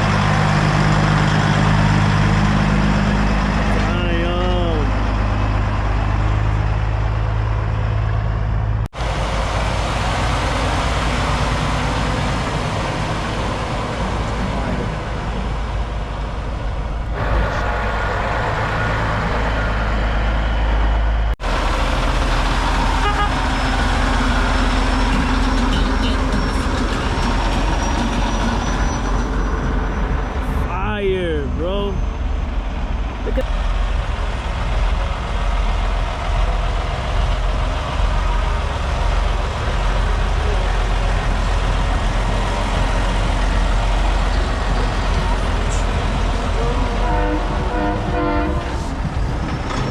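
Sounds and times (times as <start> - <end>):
diesel truck engines running: 0.0 - 49.9.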